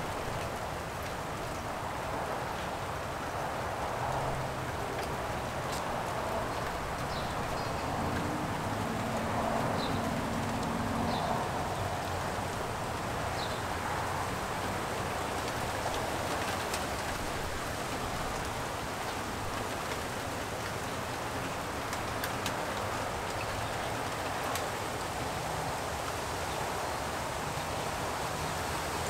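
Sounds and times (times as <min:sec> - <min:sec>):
light rain hiss: 0:00.0 - 0:29.0
rain drop ticks: 0:00.1 - 0:25.5.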